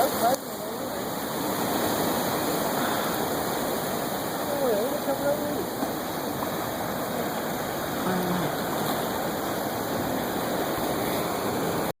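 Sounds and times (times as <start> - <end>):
ocean waves breaking: 0.0 - 11.9.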